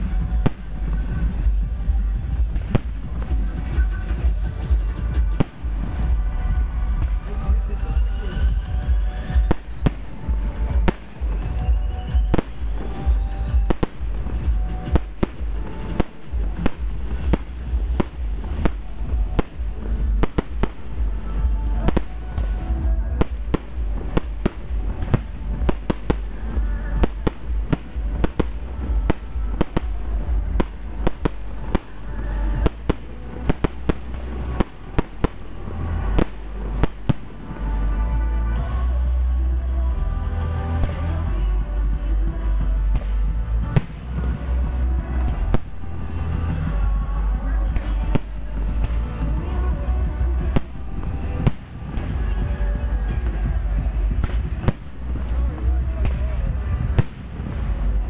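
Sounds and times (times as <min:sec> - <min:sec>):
background music: 0:00.0 - 0:58.0.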